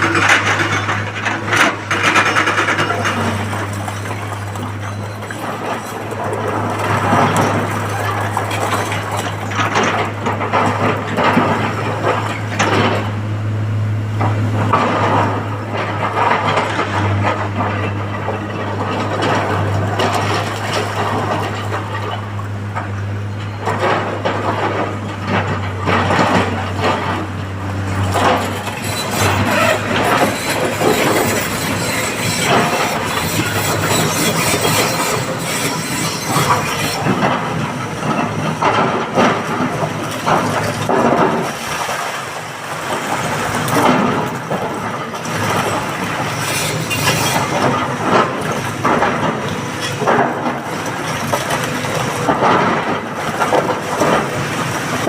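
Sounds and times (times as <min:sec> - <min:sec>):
metal and rock clanking: 0:00.0 - 0:41.7, 0:43.0 - 0:55.0
diesel engine hum: 0:00.0 - 0:55.0.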